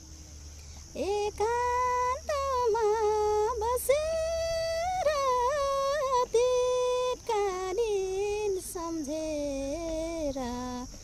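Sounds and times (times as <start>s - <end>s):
woman singing slowly: 0.8s - 11.0s.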